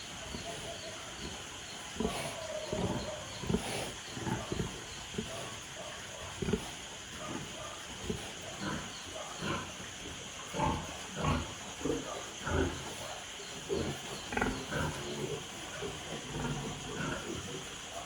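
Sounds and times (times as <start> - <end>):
pig grunting: 0.2 - 18.0.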